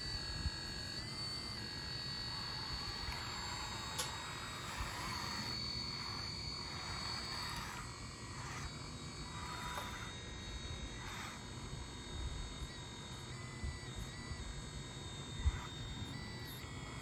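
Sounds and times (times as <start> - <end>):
electric motors whining: 0.0 - 17.0
faint steady high whine: 0.0 - 17.0.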